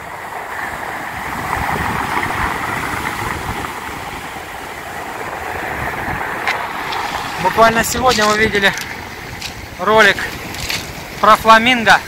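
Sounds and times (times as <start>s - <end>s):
waves breaking on pebble beach: 0.0s - 12.0s
wind rumble on microphone: 0.0s - 12.0s.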